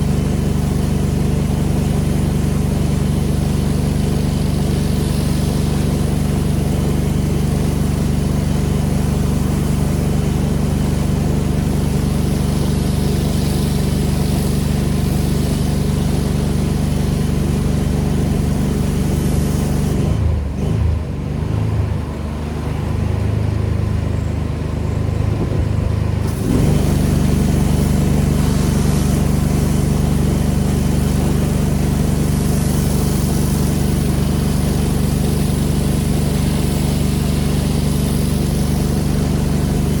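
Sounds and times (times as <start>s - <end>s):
high-pressure water spray hissing: 0.0s - 20.2s, 26.2s - 40.0s
pressure washer engine running: 0.0s - 40.0s.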